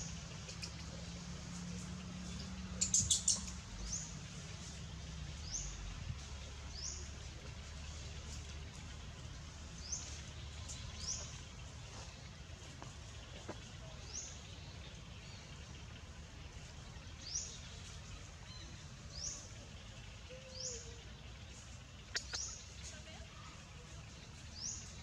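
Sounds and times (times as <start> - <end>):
bird chirping: 0.0 - 12.5, 13.1 - 25.0
low steady rumble: 0.0 - 25.0.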